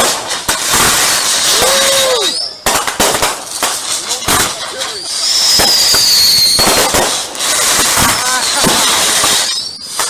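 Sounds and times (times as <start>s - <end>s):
whistling firework shell: 0.0s - 3.6s, 4.4s - 10.0s
firework cracks and bangs: 0.0s - 10.0s.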